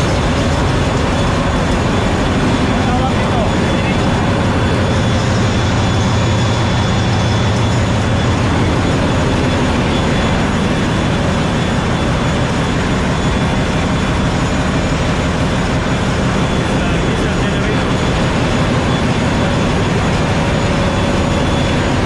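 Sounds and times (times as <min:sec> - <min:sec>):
diesel generators droning: 0:00.0 - 0:22.0.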